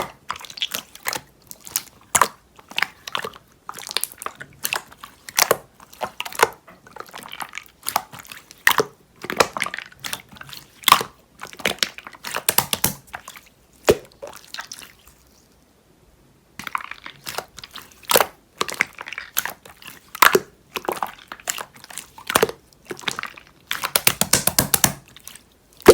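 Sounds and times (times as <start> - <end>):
hands squishing slime: 0.0 - 15.6, 16.6 - 25.9.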